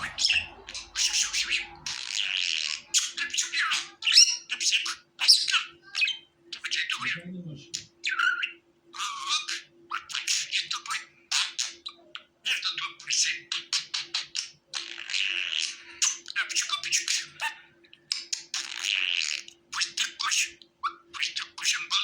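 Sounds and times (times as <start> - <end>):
budgerigars warbling and chirping: 0.0 - 22.0.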